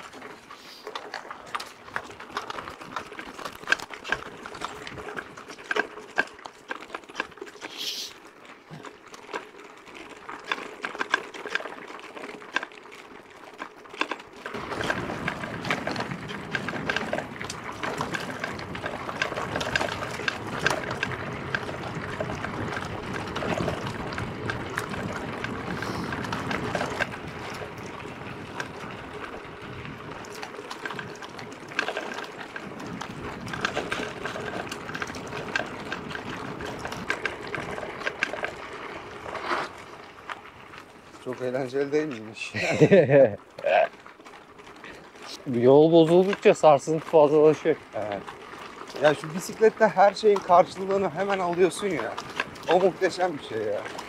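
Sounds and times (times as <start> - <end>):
mountain bike rattling on dirt: 0.0 - 54.0.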